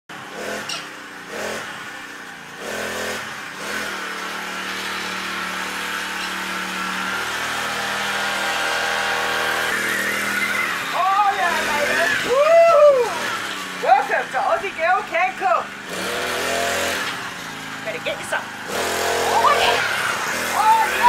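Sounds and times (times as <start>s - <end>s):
scooter motor running: 0.1s - 21.0s.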